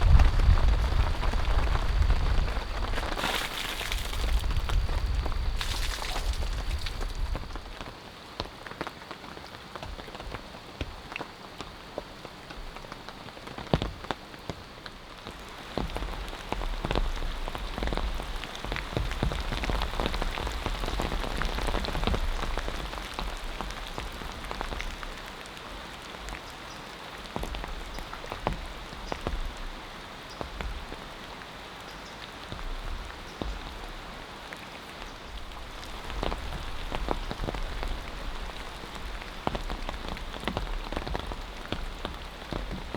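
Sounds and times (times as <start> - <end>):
rain falling: 0.0 - 42.9
raindrops clicking close by: 0.0 - 42.9.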